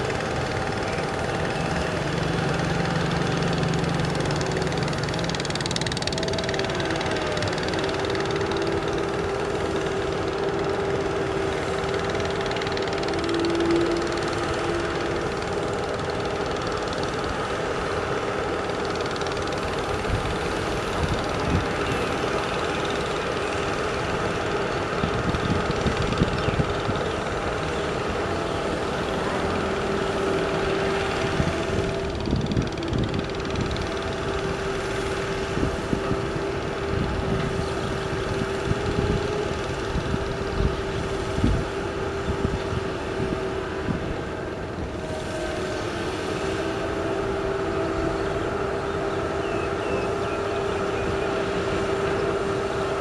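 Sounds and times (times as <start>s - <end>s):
heavy machinery engine droning: 0.0s - 53.0s.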